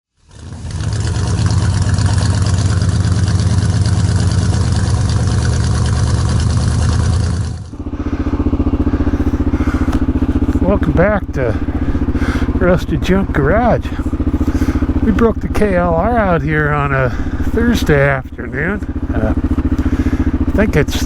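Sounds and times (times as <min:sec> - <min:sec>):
motorcycle engine running: 0:00.1 - 0:21.0
motorcycle engine idling: 0:00.2 - 0:21.0.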